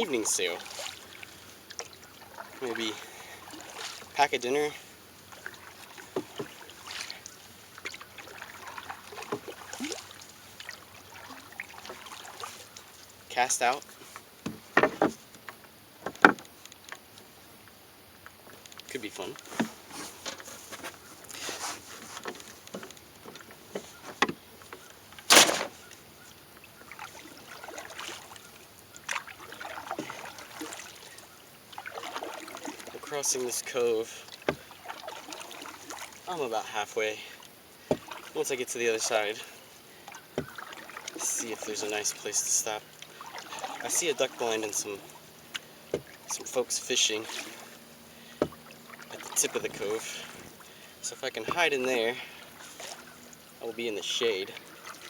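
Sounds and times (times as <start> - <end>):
water splashes: 0.0 - 15.2, 25.0 - 26.0, 26.6 - 55.0
paddle pulling through water: 0.0 - 55.0.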